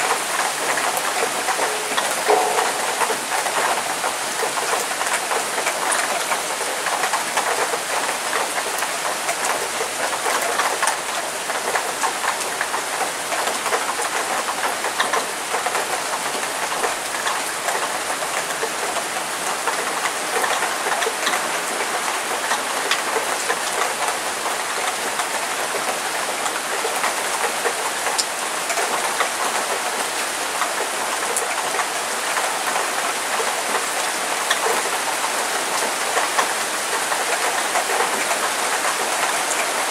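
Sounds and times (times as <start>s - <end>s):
raindrops splashing on hard surfaces: 0.0s - 39.9s.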